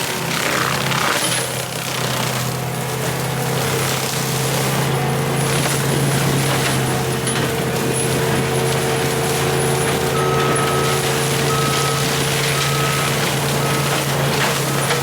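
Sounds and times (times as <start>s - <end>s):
diesel engine droning: 0.0s - 15.0s
mulching head shredding brush: 0.0s - 15.0s.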